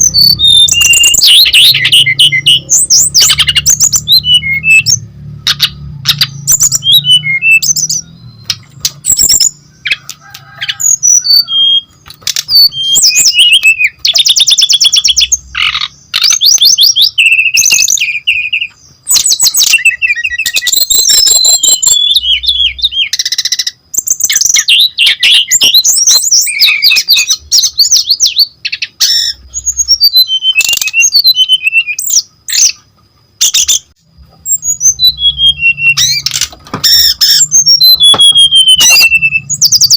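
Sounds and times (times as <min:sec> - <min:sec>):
bird singing whistles and trills: 0:00.0 - 0:32.8, 0:33.4 - 0:39.9.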